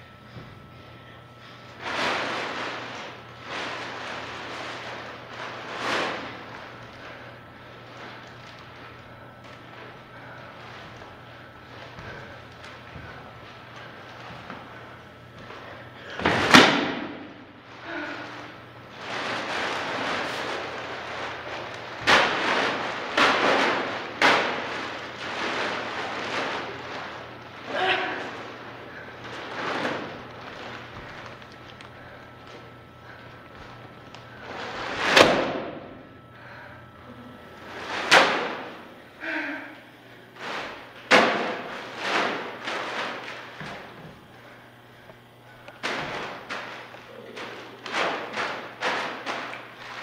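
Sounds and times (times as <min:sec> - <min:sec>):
plastic bag rustling: 0:01.7 - 0:39.1, 0:40.2 - 0:50.0.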